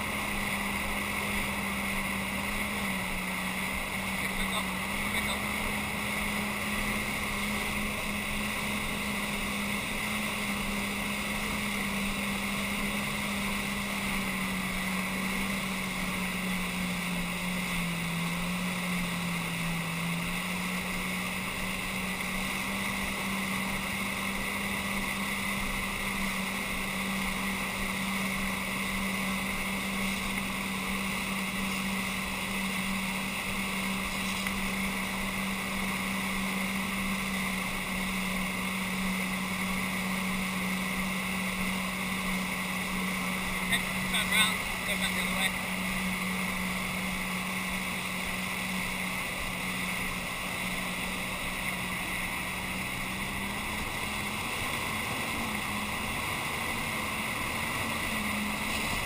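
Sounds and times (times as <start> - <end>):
jet ski engine running: 0.0 - 59.0
water rushing: 0.0 - 59.0.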